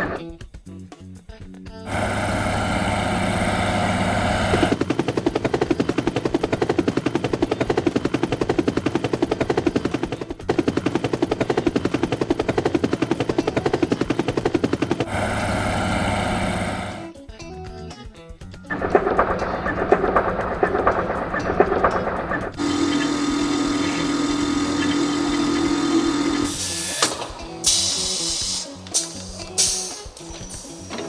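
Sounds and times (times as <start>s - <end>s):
engine-like machine hum: 1.9s - 17.1s, 18.7s - 31.0s
rapid machine pulsing: 1.9s - 17.1s, 18.7s - 31.0s.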